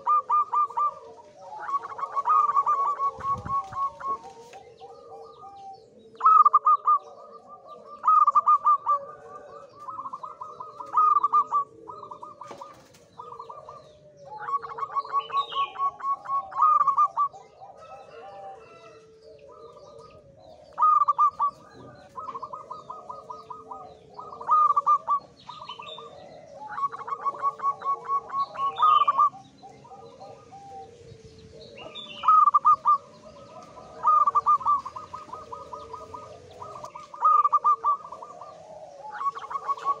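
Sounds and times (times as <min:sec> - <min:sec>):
dove singing staccato coos: 0:00.0 - 0:40.0
faint lower bird calls: 0:00.0 - 0:40.0.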